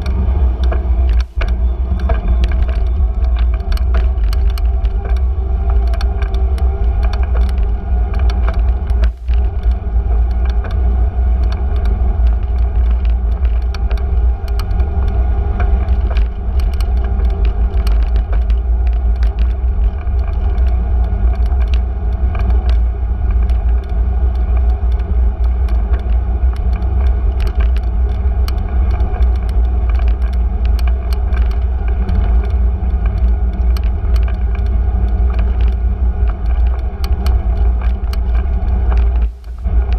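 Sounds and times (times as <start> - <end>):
bicycle clicks and rattles: 0.0 - 39.9
bicycle riding rumble: 0.0 - 39.9.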